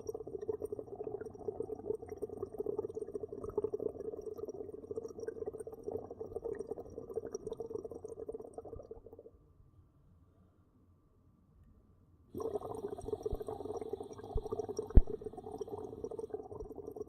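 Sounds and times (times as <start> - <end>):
bubbles blown into liquid: 0.0 - 9.3, 12.4 - 17.0.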